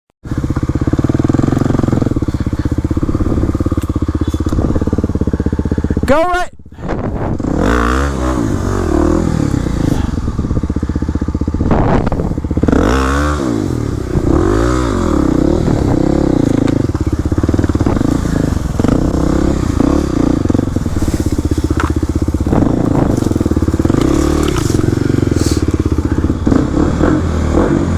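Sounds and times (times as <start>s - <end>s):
dirt bike engine revving: 0.2s - 6.1s, 6.9s - 27.9s.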